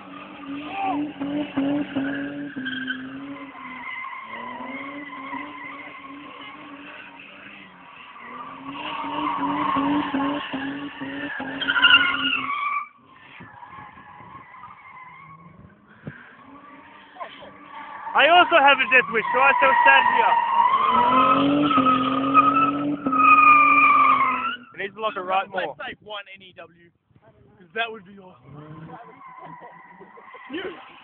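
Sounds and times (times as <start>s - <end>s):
car engine at high revs: 0.0s - 25.8s, 27.8s - 31.0s
tyres skidding: 0.0s - 26.7s, 27.5s - 31.0s.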